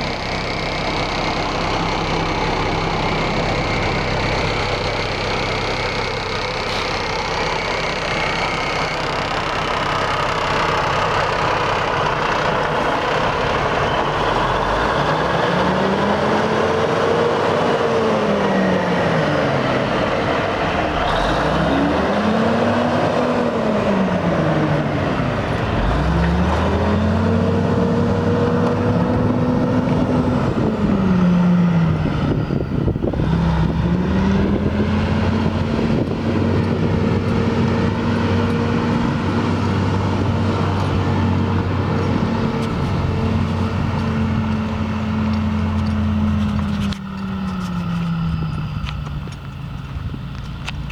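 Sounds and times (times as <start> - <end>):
diesel truck engine revving: 0.0 - 50.9.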